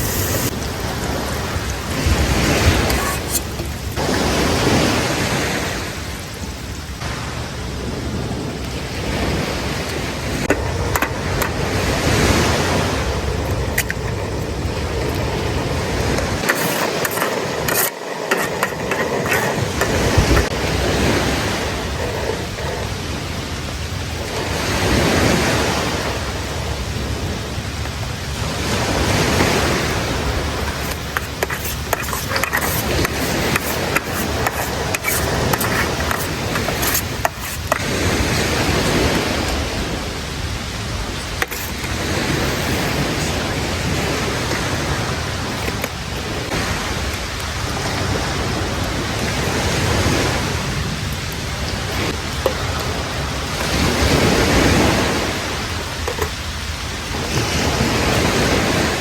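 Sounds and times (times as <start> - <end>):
sea surf washing onto beach: 0.0 - 59.0.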